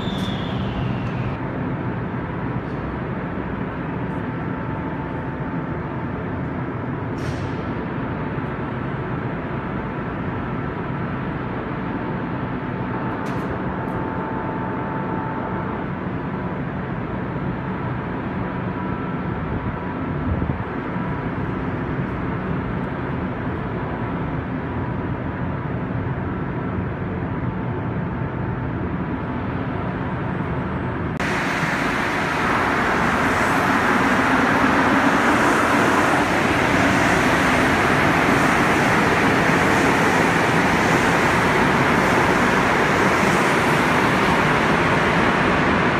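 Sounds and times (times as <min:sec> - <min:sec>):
train humming with whining tones: 0:00.0 - 0:45.9
train rushing out of station: 0:00.0 - 0:45.9.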